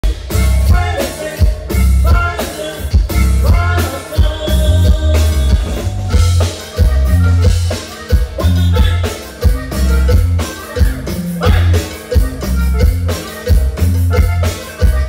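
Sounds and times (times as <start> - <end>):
accordion: 0.0 - 15.0
drum kit beat: 0.0 - 15.0
electric bass: 0.0 - 15.0.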